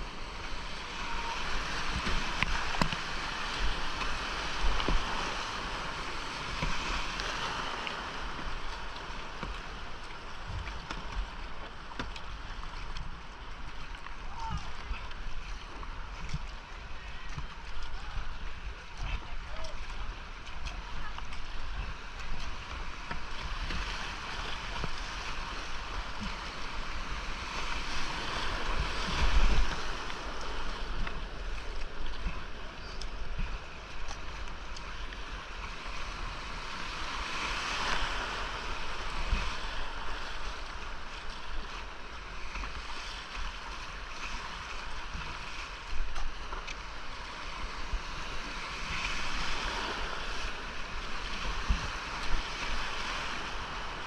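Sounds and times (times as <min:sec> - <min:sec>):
rushing whitewater: 0:00.0 - 0:54.0.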